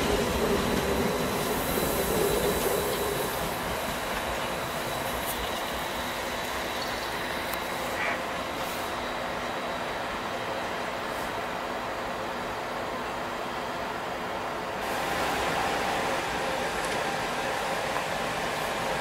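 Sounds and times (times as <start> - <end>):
train rolling on track: 0.0 - 19.0.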